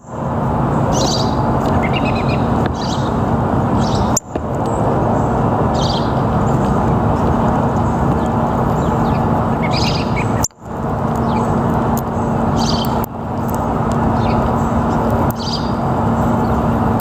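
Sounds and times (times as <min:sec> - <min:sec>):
low constant hum: 0:00.0 - 0:17.0
small birds chirping: 0:00.0 - 0:17.0
background rumble: 0:00.1 - 0:17.0.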